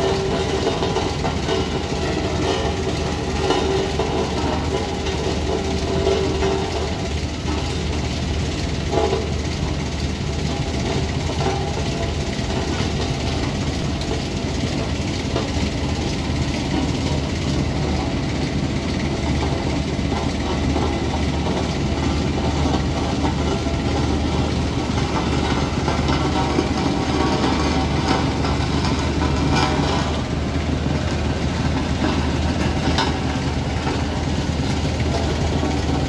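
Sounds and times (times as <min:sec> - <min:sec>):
heavy vehicle engines in traffic: 0:00.0 - 0:36.0.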